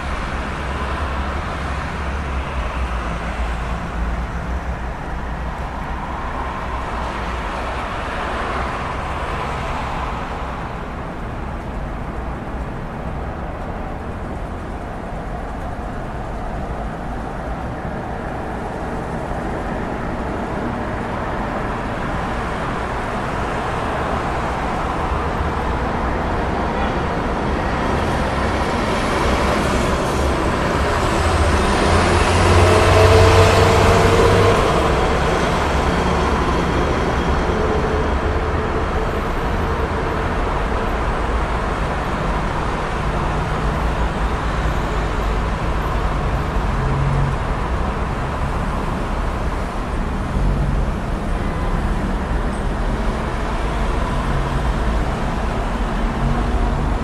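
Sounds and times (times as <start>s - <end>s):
dense road traffic: 0.0s - 57.0s.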